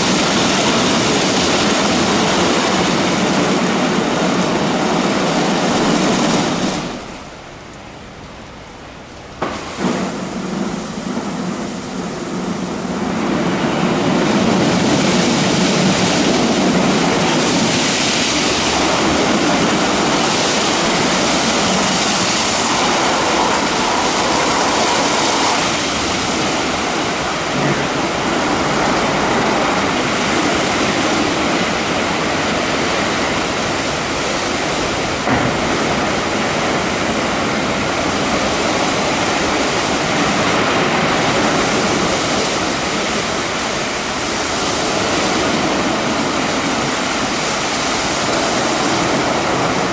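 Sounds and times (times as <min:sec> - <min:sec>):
car wash brushes and water spray: 0:09.4 - 0:49.9.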